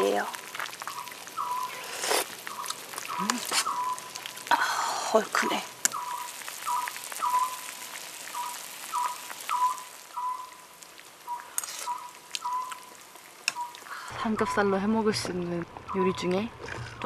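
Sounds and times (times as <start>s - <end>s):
stew bubbling in a pot: 0.0s - 17.0s.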